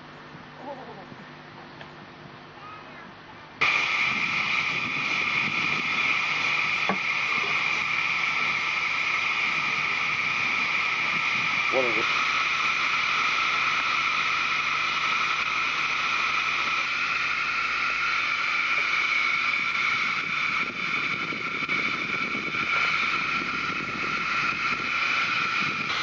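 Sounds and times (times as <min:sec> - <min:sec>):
steam blower whining hiss: 0:03.6 - 0:26.0.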